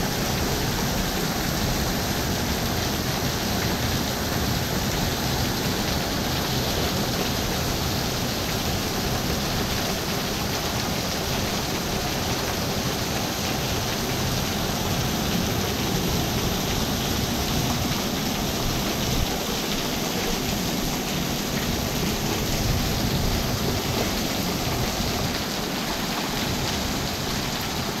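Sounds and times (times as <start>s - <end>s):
heavy rain on concrete: 0.0s - 28.0s.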